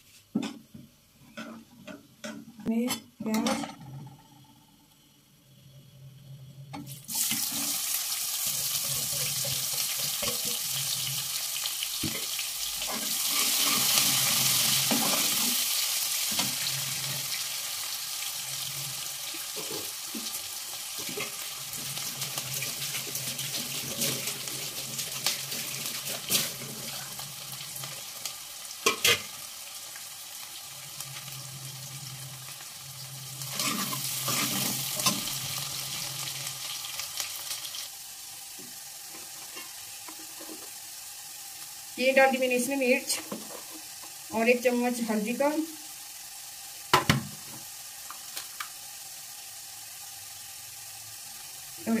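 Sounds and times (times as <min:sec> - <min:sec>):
spices sizzling in hot oil: 0:06.6 - 0:52.0.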